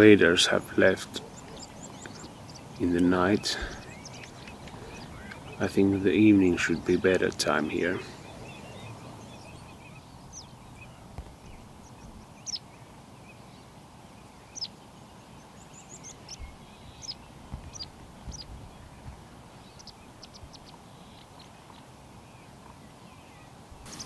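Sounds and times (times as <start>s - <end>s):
high downward bird calls: 0.0s - 13.7s, 14.3s - 21.8s, 23.1s - 24.0s
faint steady background hiss: 0.0s - 24.0s.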